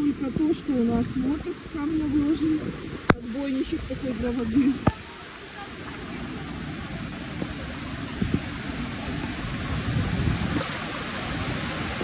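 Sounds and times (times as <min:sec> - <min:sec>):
floodwater flowing: 0:00.0 - 0:12.0.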